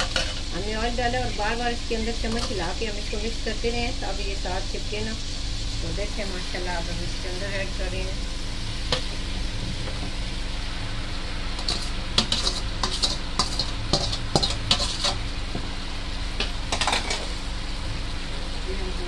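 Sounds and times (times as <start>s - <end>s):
low frying sound: 0.0s - 19.0s.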